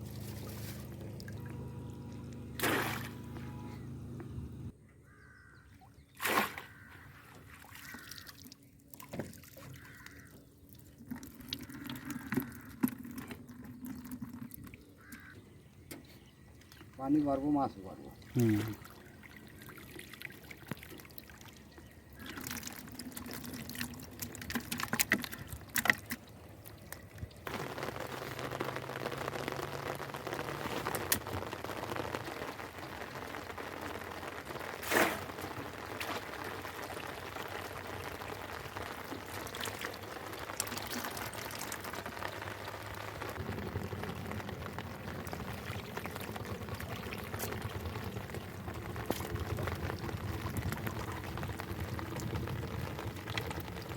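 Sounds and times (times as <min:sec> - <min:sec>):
water pouring: 0:00.0 - 0:03.4, 0:06.2 - 0:15.3, 0:16.6 - 0:53.9
water splashing: 0:00.0 - 0:03.8, 0:06.0 - 0:15.3, 0:16.5 - 0:53.9.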